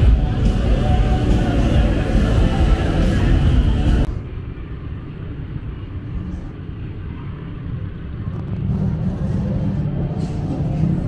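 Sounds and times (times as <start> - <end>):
low rumble of vehicle engines: 0.0 - 11.0.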